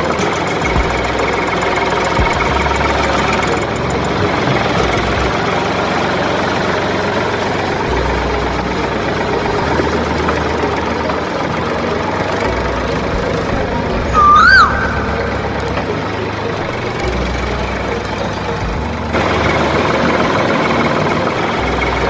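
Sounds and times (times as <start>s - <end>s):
machine idling: 0.0s - 22.0s.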